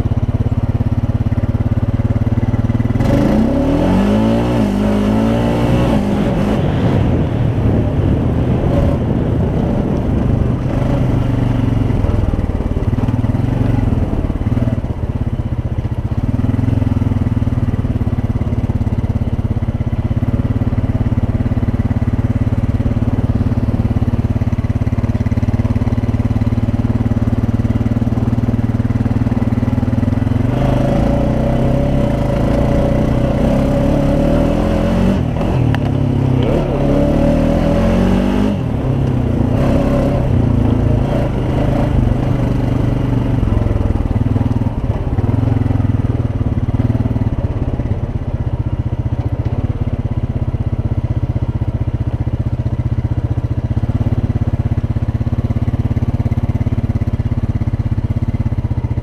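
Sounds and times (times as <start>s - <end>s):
quad bike engine revving: 0.0s - 51.2s.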